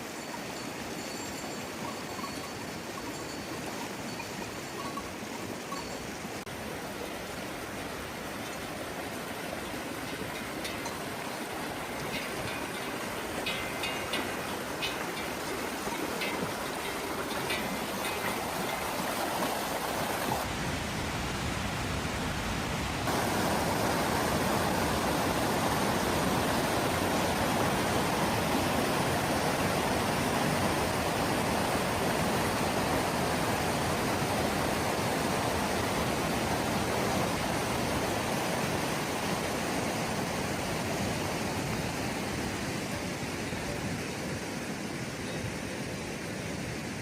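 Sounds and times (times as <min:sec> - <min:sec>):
water rushing: 0:00.0 - 0:47.0.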